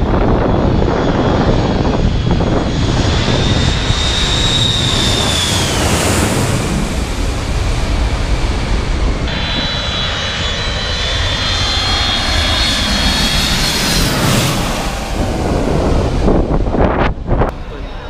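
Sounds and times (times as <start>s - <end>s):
high turbine whine: 0.0s - 18.0s
jet engine rumble overhead: 0.0s - 18.0s.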